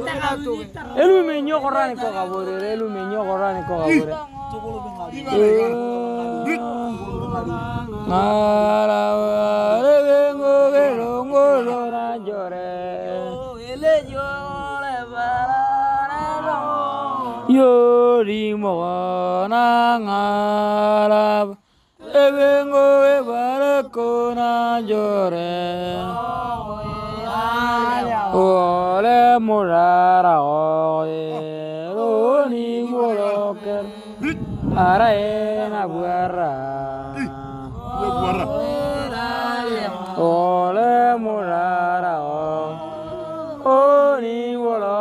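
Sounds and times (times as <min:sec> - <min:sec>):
person singing chant-like song: 0:00.0 - 0:45.0.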